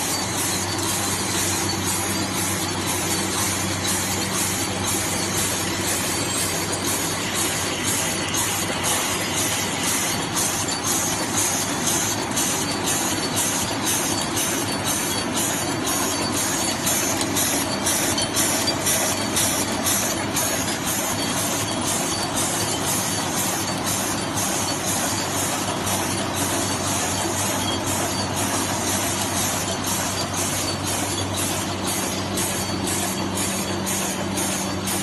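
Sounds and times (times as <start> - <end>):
packing machine whirring: 0.0 - 35.0
quick mechanical clacking: 0.0 - 35.0.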